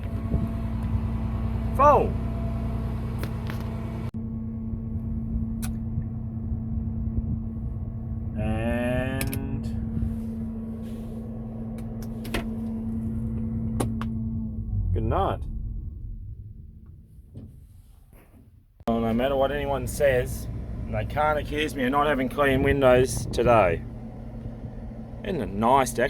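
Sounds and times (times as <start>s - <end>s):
combine harvester rumbling: 0.0s - 17.8s, 18.9s - 26.0s.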